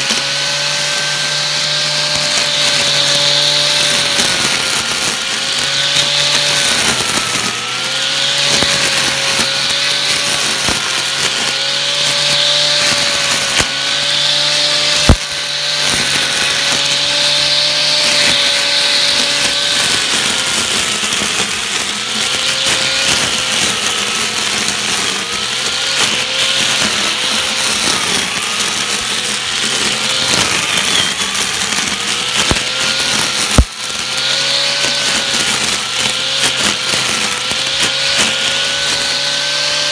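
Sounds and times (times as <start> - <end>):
grass trimmer motor whine: 0.0 - 39.9
swish of cut grass: 0.0 - 39.9.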